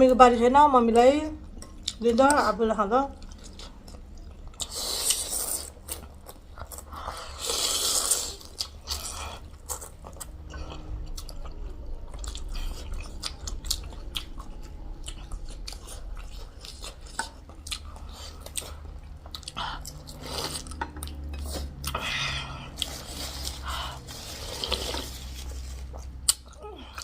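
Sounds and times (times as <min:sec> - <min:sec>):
chewing and crunching: 0:03.1 - 0:27.0.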